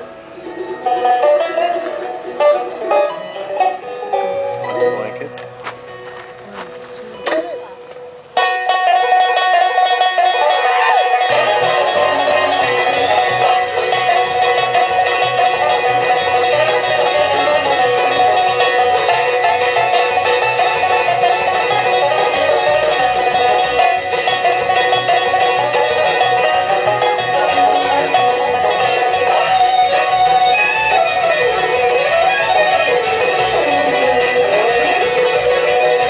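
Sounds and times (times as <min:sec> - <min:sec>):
bass: 0:00.0 - 0:36.0
bluegrass band playing: 0:00.0 - 0:36.0
rapid banjo picking: 0:00.0 - 0:36.0.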